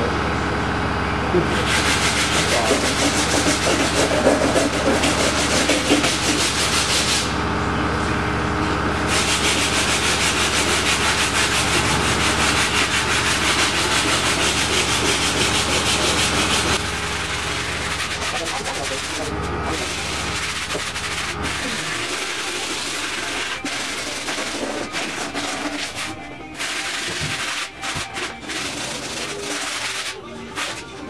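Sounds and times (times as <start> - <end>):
sanding rasp: 1.5 - 7.3, 9.1 - 30.9.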